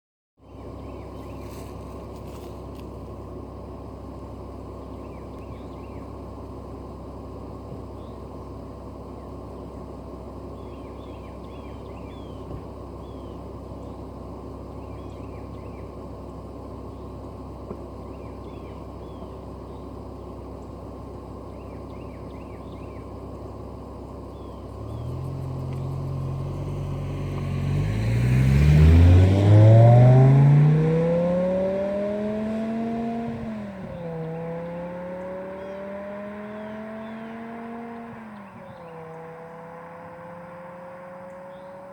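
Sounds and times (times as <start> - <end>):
car engine idling and accelerating: 0.4 - 41.9.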